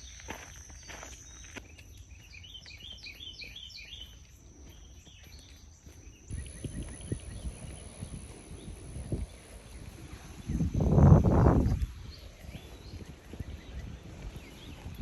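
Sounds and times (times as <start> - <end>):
bird chirping: 0.0 - 15.0
high-pitched insect drone: 0.0 - 15.0.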